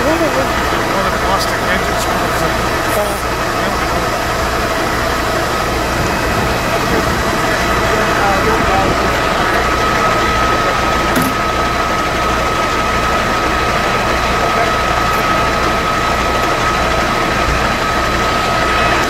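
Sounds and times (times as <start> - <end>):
fire engine pump running: 0.0 - 19.0.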